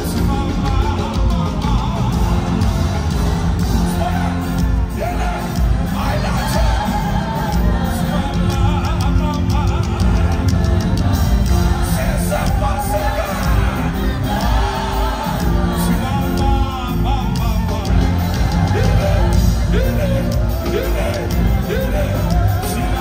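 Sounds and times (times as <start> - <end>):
band with heavy bass beat: 0.0 - 23.0
gospel choir singing: 0.0 - 23.0
audience shouting and whooping: 2.0 - 23.0.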